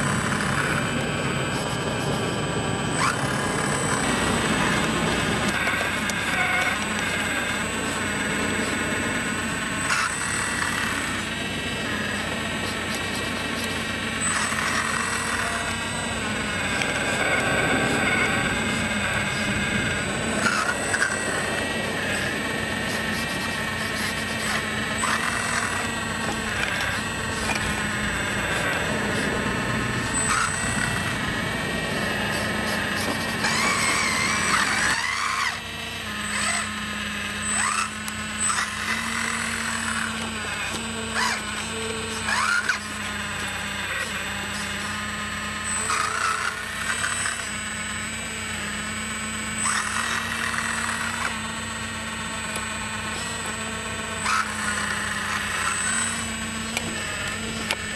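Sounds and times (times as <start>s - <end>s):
hydraulic pump whining: 0.0s - 57.9s.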